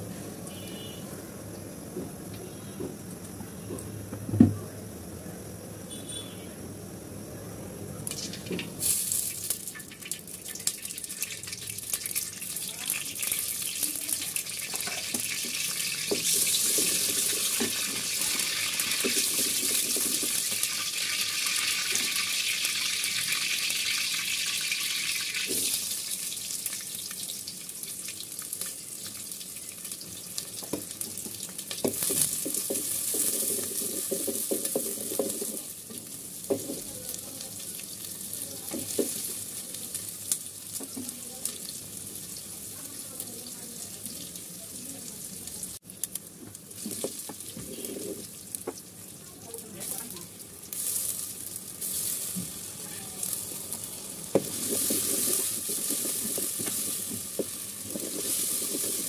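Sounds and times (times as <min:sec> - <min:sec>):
leaves sizzling in hot oil: 0:07.8 - 0:59.0.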